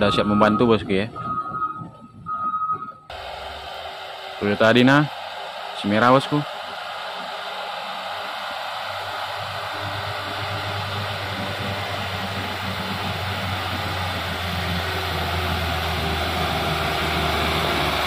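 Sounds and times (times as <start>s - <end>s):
truck engine running: 3.1s - 18.0s.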